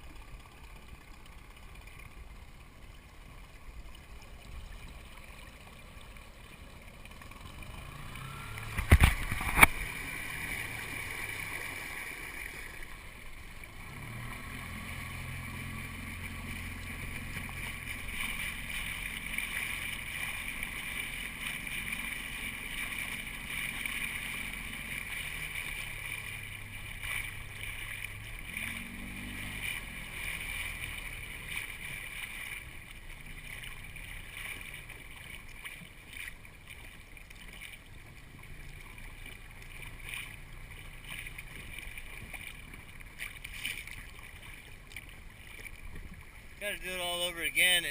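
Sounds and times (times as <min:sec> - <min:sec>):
low steady hum: 0:00.0 - 0:47.9
water sloshing against boat hull: 0:00.0 - 0:47.9.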